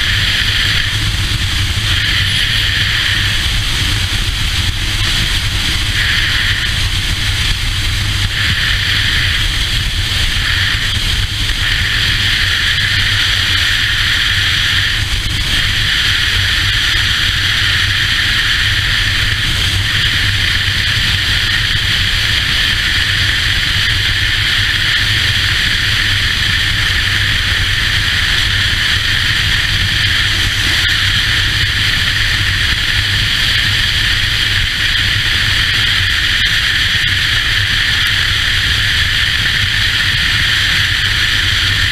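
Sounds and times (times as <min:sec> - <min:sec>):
motorcycle engine drone: 0:00.0 - 0:41.9
wind rushing on microphone: 0:00.0 - 0:41.9.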